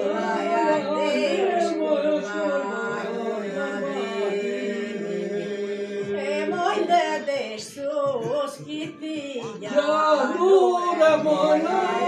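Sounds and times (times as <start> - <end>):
held vocal drone: 0.0 - 12.0
unaccompanied group singing: 0.0 - 12.0.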